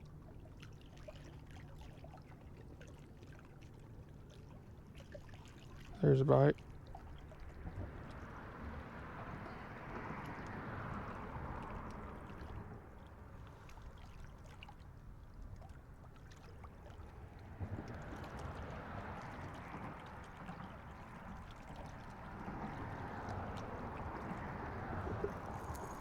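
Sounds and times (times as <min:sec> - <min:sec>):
water lapping against shore: 0:00.0 - 0:26.0.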